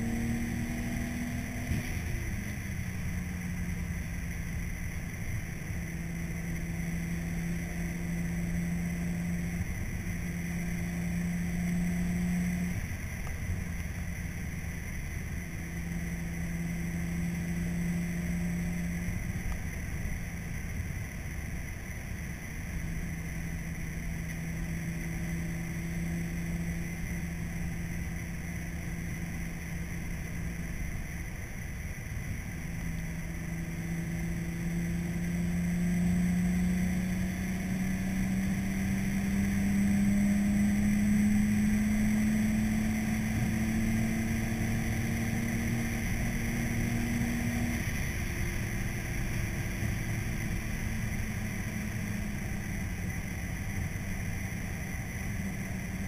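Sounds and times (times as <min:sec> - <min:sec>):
low hum: 0:00.0 - 0:56.0
road and engine rumble: 0:00.0 - 0:56.0.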